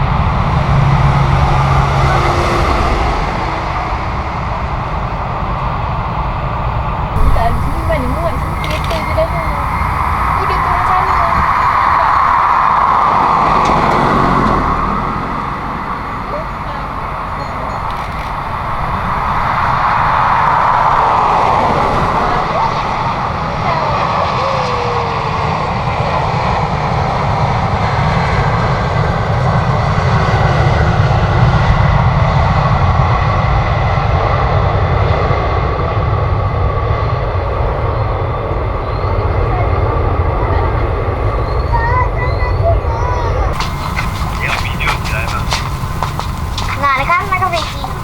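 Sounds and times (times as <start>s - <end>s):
deep rumble: 0.0s - 32.7s, 35.9s - 48.0s
jet engine rush: 0.0s - 48.0s.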